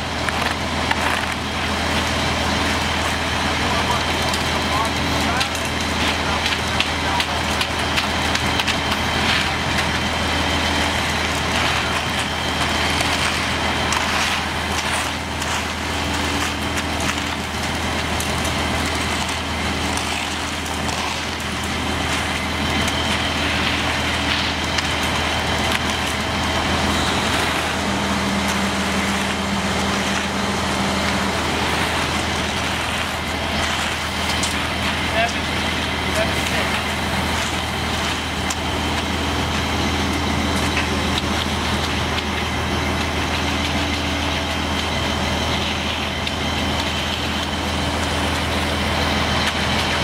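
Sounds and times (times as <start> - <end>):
diesel engine droning under load: 0.0 - 50.0.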